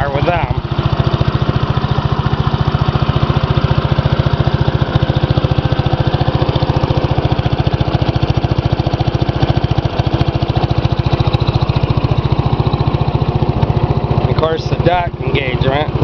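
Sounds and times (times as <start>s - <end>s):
single-cylinder engine chugging: 0.0s - 16.0s.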